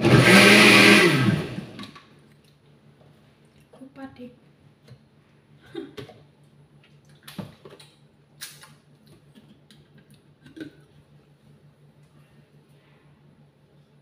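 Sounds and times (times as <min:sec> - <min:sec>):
low steady hum: 0:02.1 - 0:14.0.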